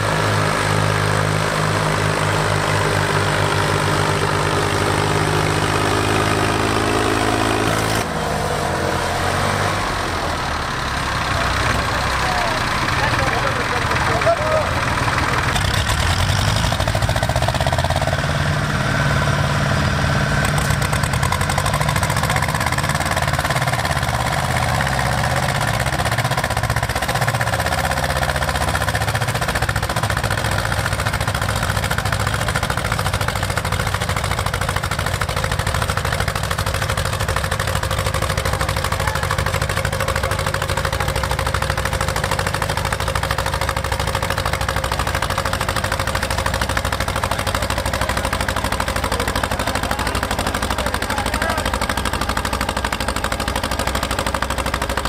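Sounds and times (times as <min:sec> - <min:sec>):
diesel tractor engines under load: 0:00.0 - 0:55.0.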